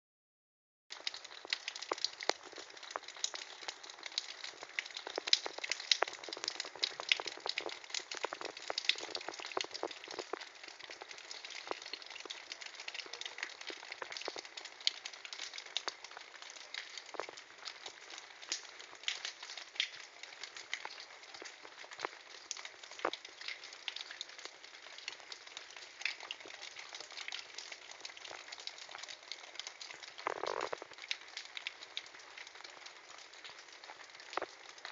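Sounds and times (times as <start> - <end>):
water dripping onto ice: 0.9 - 34.9.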